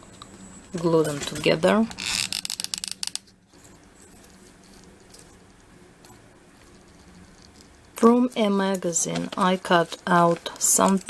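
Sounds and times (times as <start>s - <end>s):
room hum: 0.0s - 11.0s
craft materials clicking and rustling: 0.1s - 11.0s.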